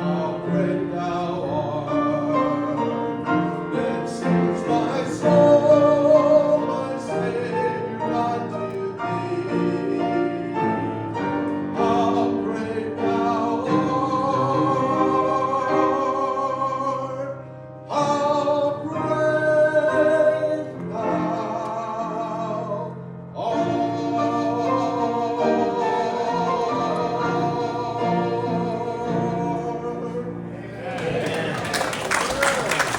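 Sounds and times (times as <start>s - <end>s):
gospel singing with vibrato: 0.0s - 32.9s.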